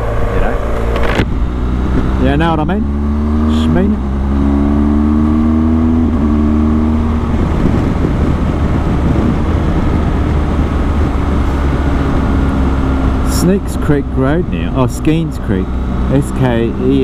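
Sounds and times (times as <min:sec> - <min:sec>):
deep wind rumble: 0:00.0 - 0:17.0
motorcycle engine running: 0:00.0 - 0:17.0.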